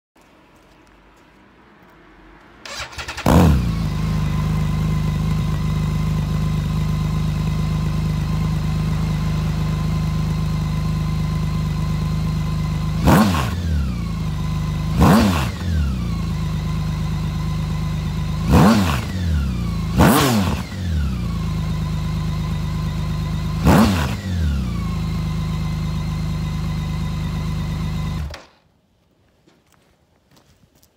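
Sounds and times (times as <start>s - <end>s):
motorcycle engine idling and revving: 2.1s - 28.5s.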